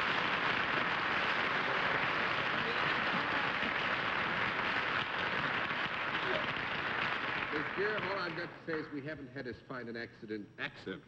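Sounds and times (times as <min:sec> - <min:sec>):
studio audience applauding: 0:00.0 - 0:09.0.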